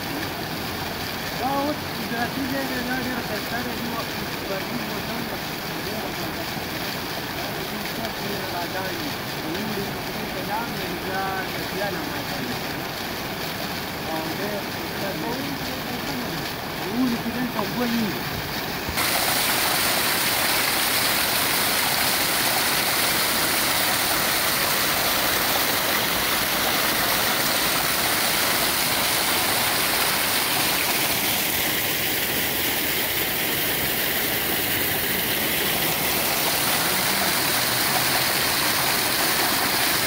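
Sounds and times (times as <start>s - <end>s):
waterfall splashing on stones: 0.0s - 40.0s.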